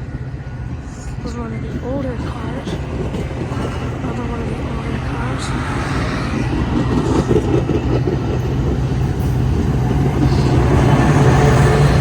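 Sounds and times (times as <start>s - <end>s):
diesel engine drone: 0.0s - 12.0s
passenger cars rumbling by: 0.0s - 12.0s.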